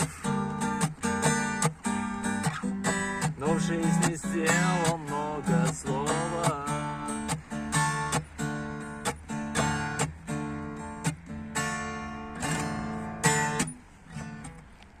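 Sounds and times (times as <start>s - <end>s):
guitar strumming chords: 0.0s - 14.8s.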